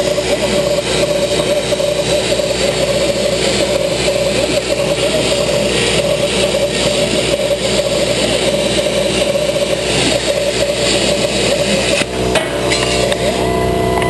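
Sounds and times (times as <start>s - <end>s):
machine hum: 0.0s - 14.0s
plasma torch cutting steel: 0.0s - 14.0s.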